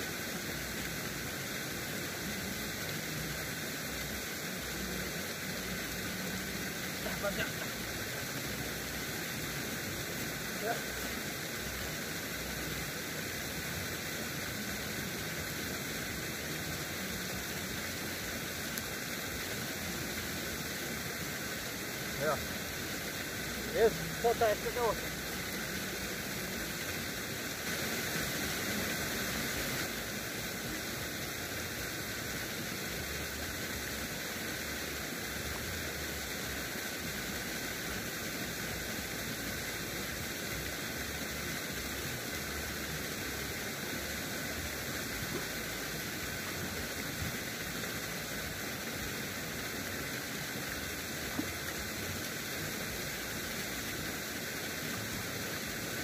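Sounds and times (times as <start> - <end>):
steady rushing hiss: 0.0 - 56.0.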